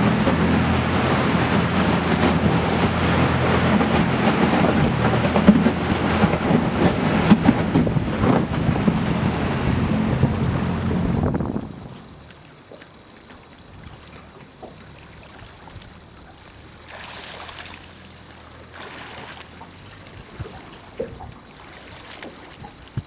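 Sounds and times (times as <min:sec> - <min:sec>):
boat motor running: 0:00.0 - 0:23.0.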